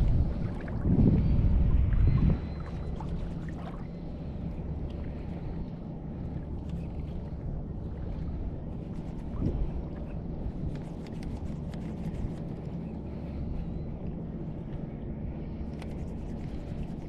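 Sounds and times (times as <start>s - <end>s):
light water splashes: 0.0s - 17.0s
wind rumbling on microphone: 0.0s - 17.0s.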